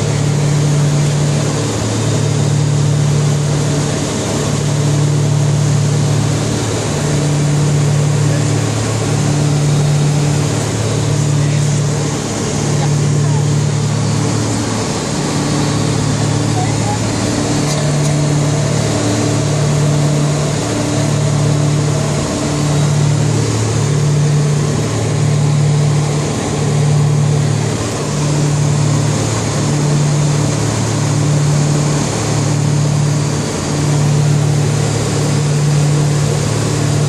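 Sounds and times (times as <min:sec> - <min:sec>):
propeller plane engines droning: 0:00.0 - 0:37.0.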